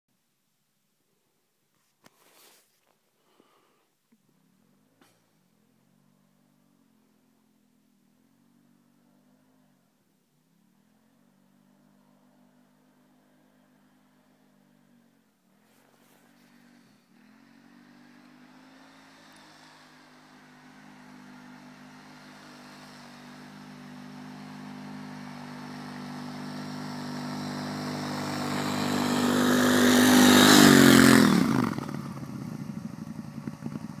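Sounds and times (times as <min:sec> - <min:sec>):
vehicle engine in deep snow: 0:02.0 - 0:34.0.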